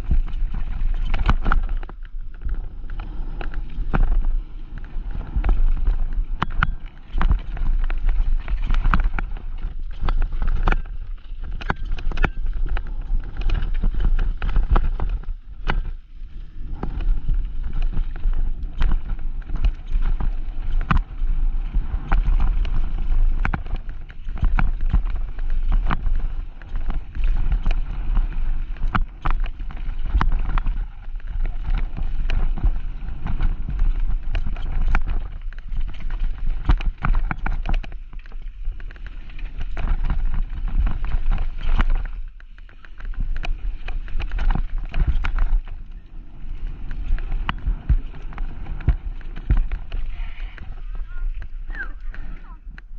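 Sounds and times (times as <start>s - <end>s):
bike frame and chain rattling: 0.0s - 51.6s
bike tyres on dirt: 0.0s - 52.9s
wind rumble on microphone: 0.0s - 52.9s.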